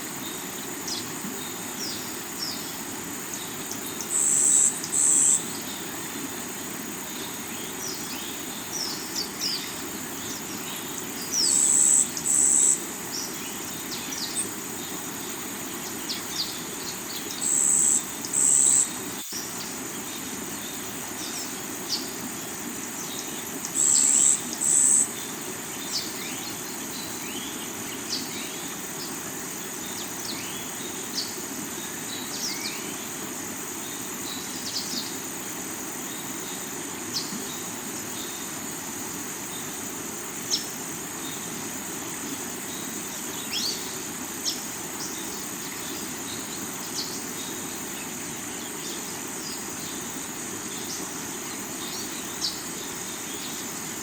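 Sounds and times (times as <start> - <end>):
crickets droning: 0.0 - 54.0.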